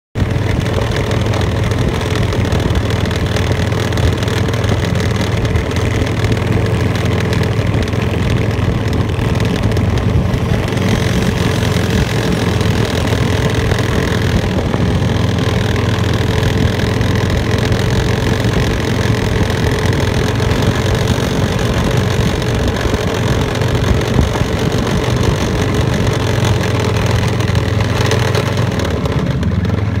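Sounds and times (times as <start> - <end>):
snowmobile engine running: 0.2 - 30.0.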